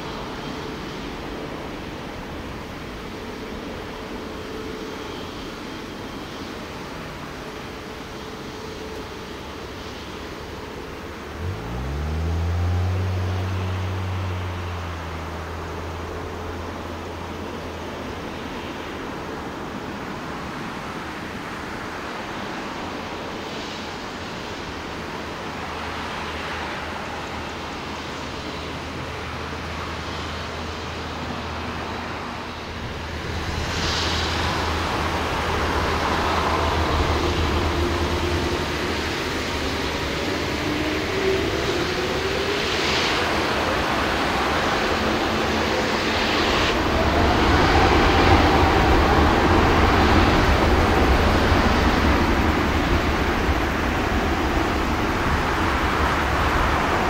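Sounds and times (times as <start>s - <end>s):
jet engines during takeoff: 0.0s - 57.0s.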